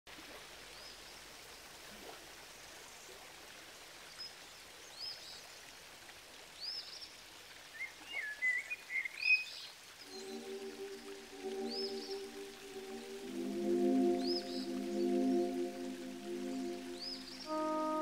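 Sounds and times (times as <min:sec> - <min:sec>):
creek flowing over rocks: 0:00.1 - 0:18.0.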